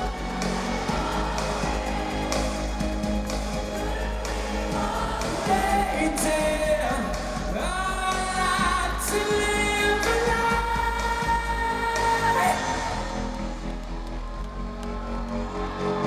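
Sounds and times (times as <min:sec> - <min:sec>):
person singing: 0:00.0 - 0:13.6.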